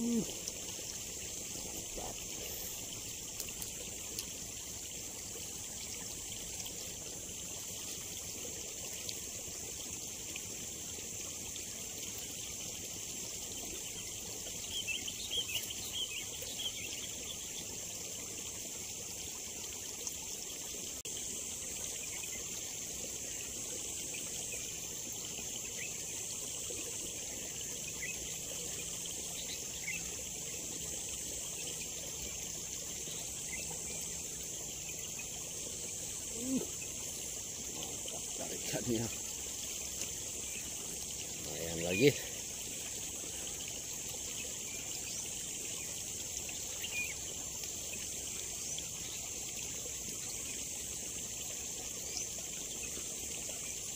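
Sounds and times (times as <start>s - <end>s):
constant high-pitched hiss: 0.0s - 53.9s.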